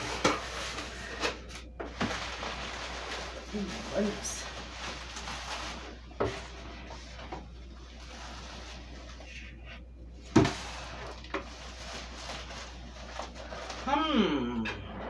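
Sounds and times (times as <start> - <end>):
packing material rustling: 0.0 - 9.4, 10.4 - 14.0.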